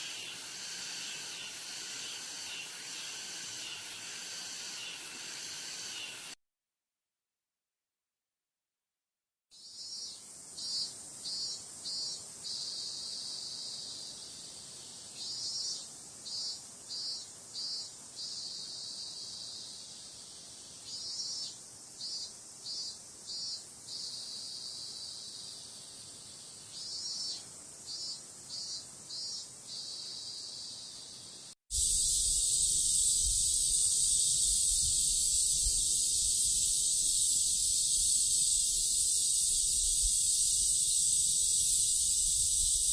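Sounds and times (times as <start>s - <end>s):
cicadas buzzing in pulses: 0.0s - 6.4s, 9.6s - 42.9s
cicadas droning: 0.0s - 6.4s, 9.6s - 42.9s.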